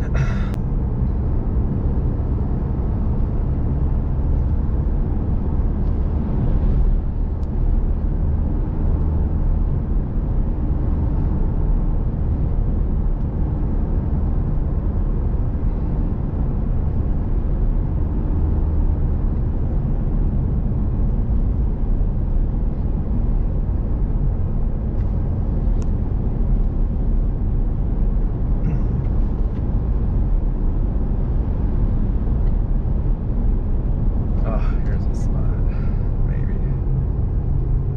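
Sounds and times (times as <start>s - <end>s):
vehicle road and engine rumble: 0.0s - 37.9s.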